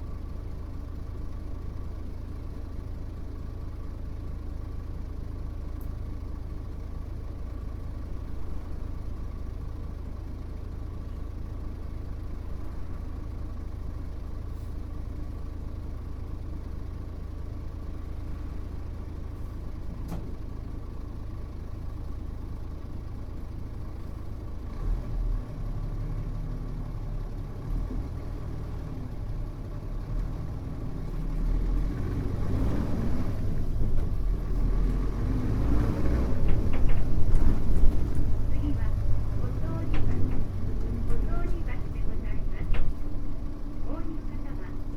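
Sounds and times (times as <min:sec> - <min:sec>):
bus diesel engine idling and revving: 0:00.0 - 0:44.9.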